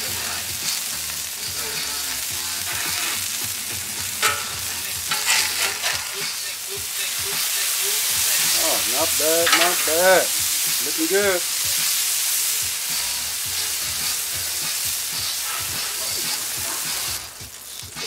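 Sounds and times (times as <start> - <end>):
patties sizzling on a griddle: 0.0 - 18.0
metal spatula scraping griddle: 1.6 - 17.4.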